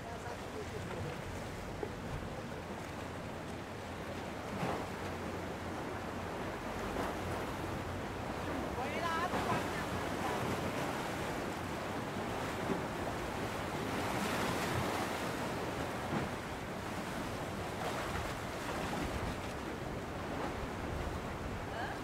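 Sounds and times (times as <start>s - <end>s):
sea surf washing ashore: 0.0s - 22.0s
wind: 0.0s - 22.0s.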